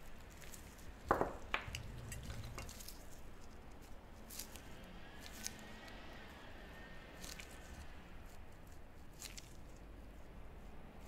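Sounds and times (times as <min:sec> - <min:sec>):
hands working soft dough: 0:00.0 - 0:11.0.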